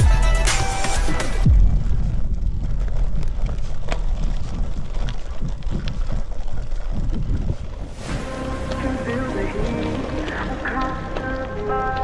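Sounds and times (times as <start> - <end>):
wind buffeting microphone: 1.0 - 12.0.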